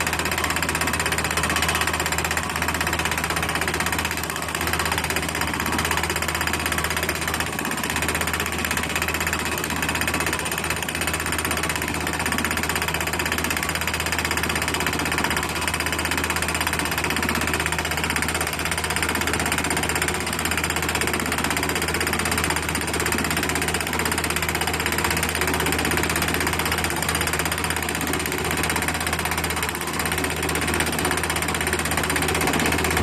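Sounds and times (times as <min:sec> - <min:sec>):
drill hammering rattle: 0:00.0 - 0:33.0.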